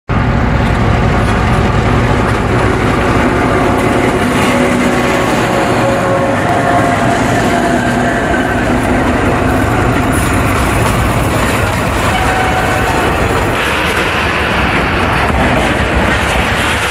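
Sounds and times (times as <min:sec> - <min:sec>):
diesel locomotive engine: 0:00.1 - 0:16.9
freight wagons rolling on rails: 0:00.1 - 0:16.9.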